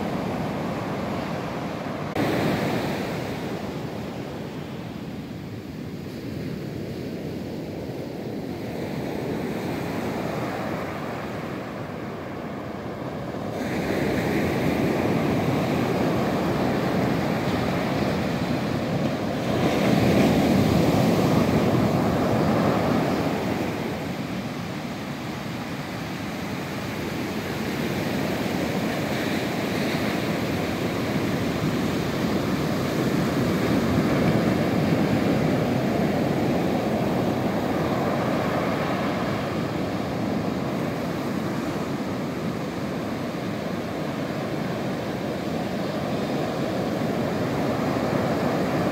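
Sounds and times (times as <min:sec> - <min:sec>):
surf breaking on sandy beach: 0:00.0 - 0:04.8, 0:08.9 - 0:48.9.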